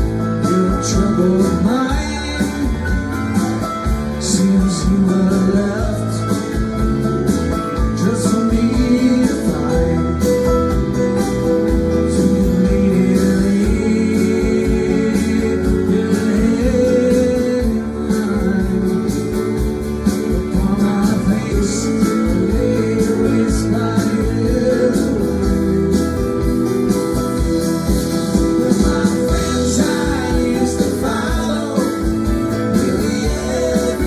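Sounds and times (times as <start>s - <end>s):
guitars: 0.0s - 34.0s
steady drum beat: 0.0s - 34.0s
person singing: 0.2s - 7.2s, 7.8s - 10.8s, 12.0s - 27.0s, 28.3s - 34.0s.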